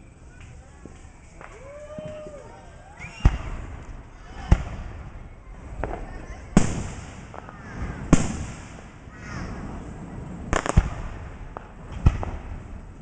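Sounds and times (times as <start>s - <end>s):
faint fireworks cracks: 0.0s - 13.0s
fireworks bangs: 0.0s - 13.0s.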